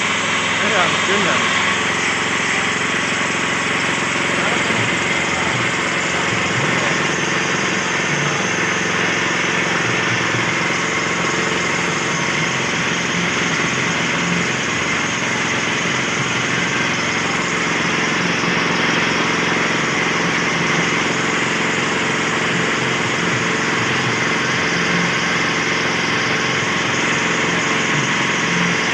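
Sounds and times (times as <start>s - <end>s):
small engine running steadily: 0.0s - 28.9s.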